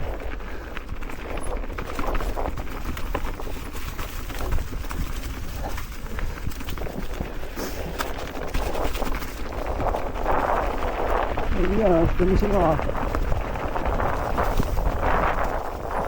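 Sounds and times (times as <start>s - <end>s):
bike tyres rolling on trail: 0.0s - 16.0s
bike knocks and rattles: 0.5s - 16.0s.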